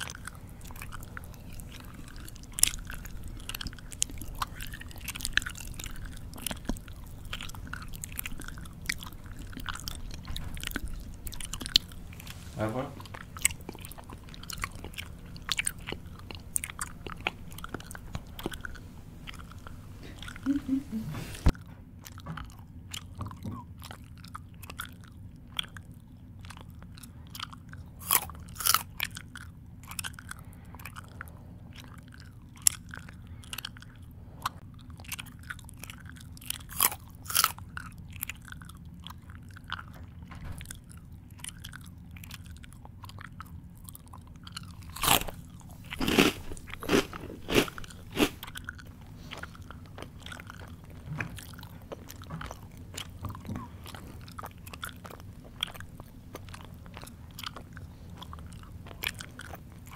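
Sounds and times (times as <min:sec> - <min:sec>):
person chewing crunchy food: 0:00.0 - 0:59.9.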